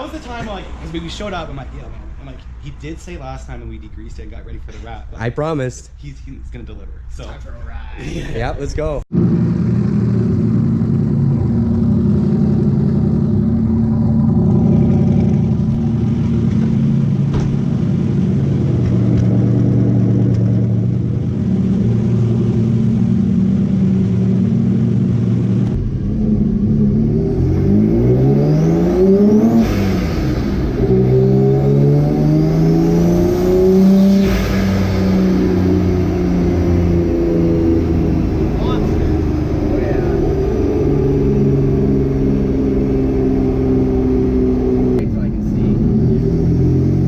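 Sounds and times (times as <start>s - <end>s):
car engine revving: 9.1s - 47.0s.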